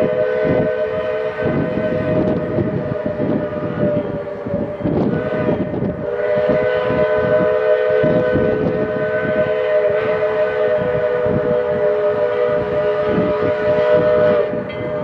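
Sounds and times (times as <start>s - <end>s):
steam locomotive chime whistle: 0.0s - 15.0s
train running rumble: 0.0s - 15.0s.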